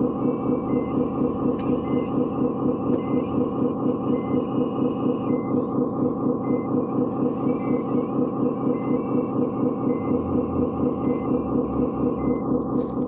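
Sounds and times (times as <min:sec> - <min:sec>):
toy construction machine chugging: 0:00.0 - 0:12.6.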